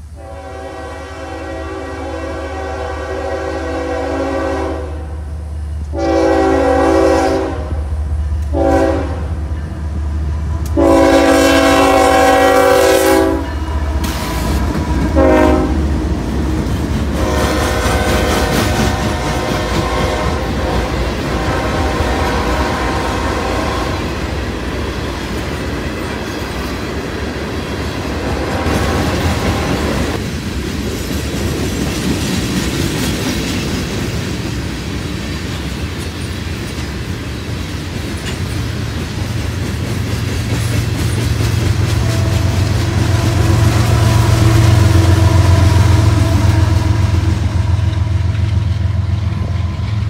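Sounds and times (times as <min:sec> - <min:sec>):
low train rumble: 0:00.0 - 0:50.0
train wheels running over rails: 0:08.0 - 0:50.0.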